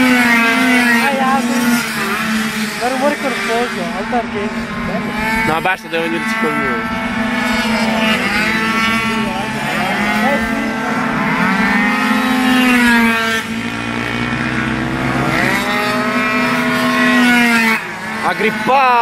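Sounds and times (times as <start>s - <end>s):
racing scooter engines revving: 0.0s - 19.0s
steady low drone: 0.0s - 19.0s.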